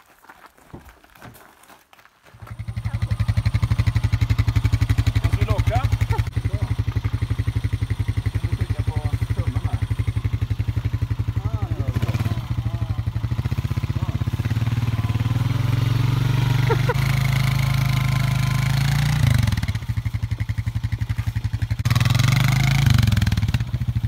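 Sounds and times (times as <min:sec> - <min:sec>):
quad bike engine running: 0:02.4 - 0:24.0.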